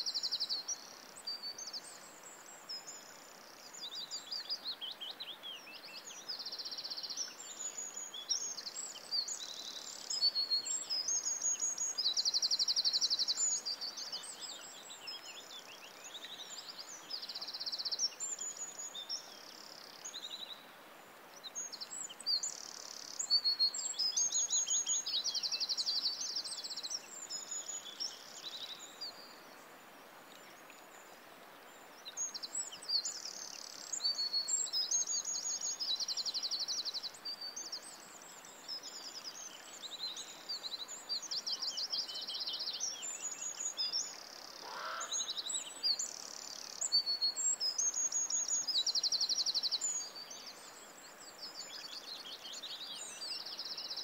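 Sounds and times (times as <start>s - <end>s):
songbird singing with trills: 0.0s - 20.7s, 21.3s - 29.6s, 30.4s - 54.0s
faint steady hiss: 0.0s - 54.0s.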